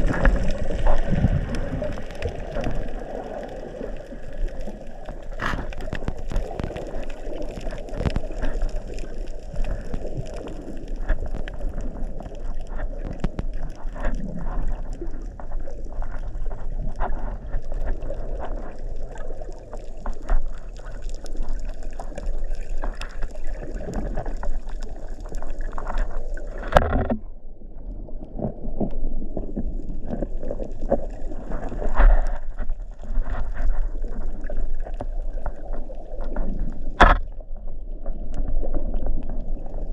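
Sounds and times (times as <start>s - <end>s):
muffled underwater rush: 0.0s - 39.9s
small underwater clicks and knocks: 0.0s - 39.9s.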